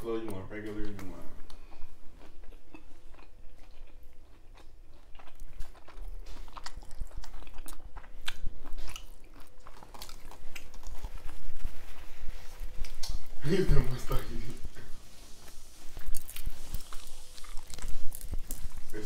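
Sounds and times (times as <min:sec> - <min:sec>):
chewing and crunching food: 0:00.2 - 0:19.0.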